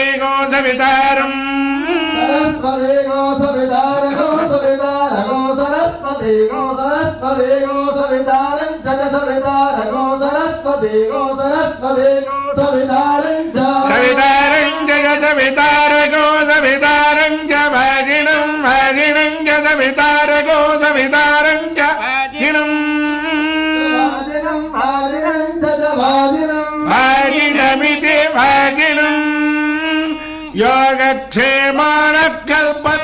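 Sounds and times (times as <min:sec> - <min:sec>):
man singing chant-like song: 0:00.0 - 0:33.0.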